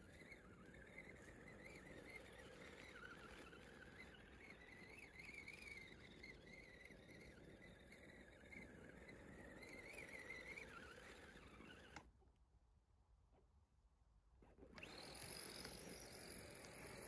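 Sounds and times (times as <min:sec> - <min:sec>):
electric motor whine: 0:00.0 - 0:12.1, 0:14.7 - 0:17.0.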